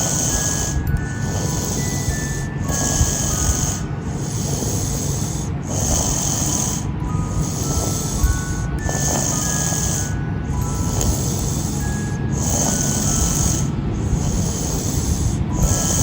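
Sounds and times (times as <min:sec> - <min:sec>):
person snoring: 0:00.0 - 0:16.0.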